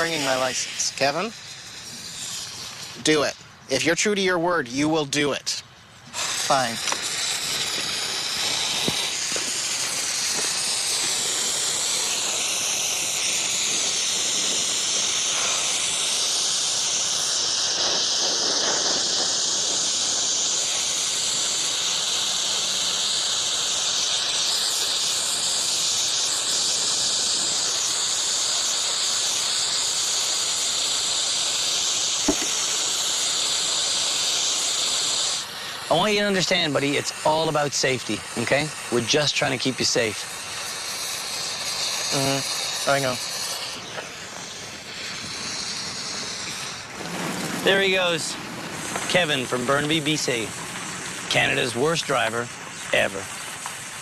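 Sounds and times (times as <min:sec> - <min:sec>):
road flare hissing: 0:00.0 - 0:54.0.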